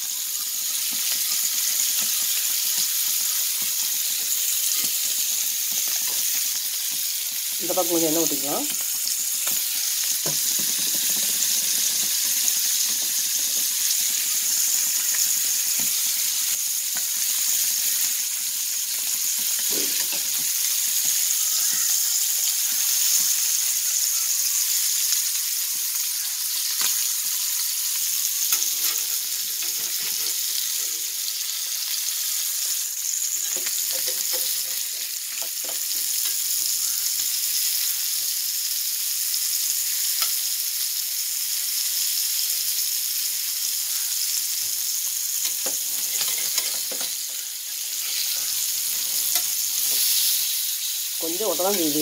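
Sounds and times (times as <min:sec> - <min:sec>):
fish frying in oil: 0:00.0 - 0:52.0.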